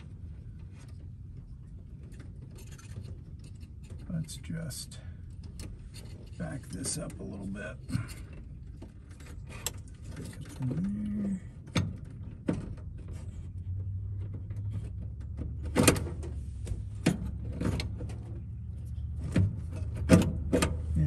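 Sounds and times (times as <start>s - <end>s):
traffic hum: 0.0s - 21.0s.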